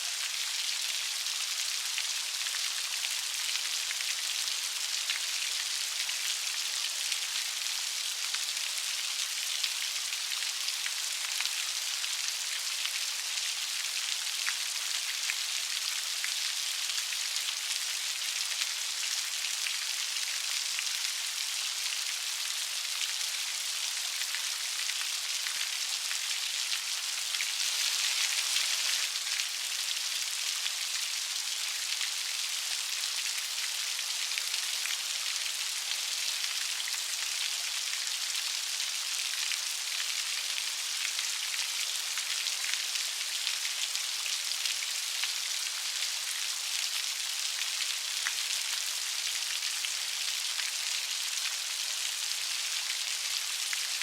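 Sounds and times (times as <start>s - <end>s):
light rain patter: 0.0s - 54.0s.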